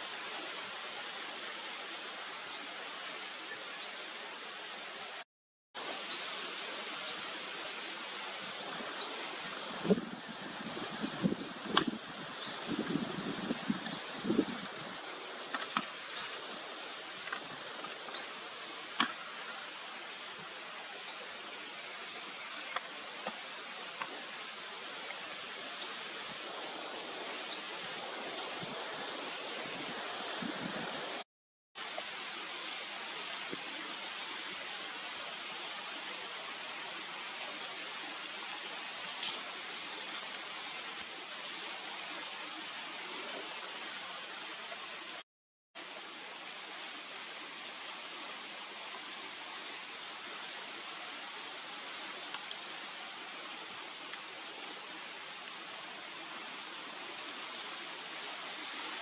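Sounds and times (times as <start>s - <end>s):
running water rushing: 0.0s - 5.2s, 5.8s - 45.2s, 45.8s - 59.0s.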